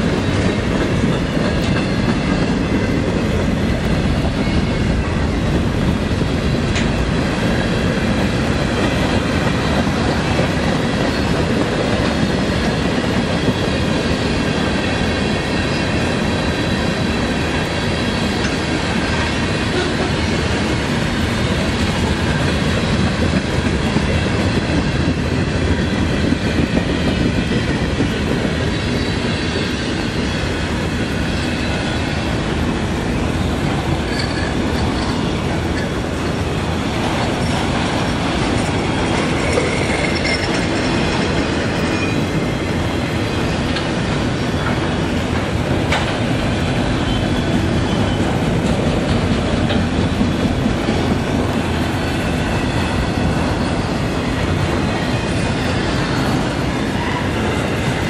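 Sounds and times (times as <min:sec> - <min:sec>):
freight train wheels clattering on rail: 0:00.0 - 0:58.0.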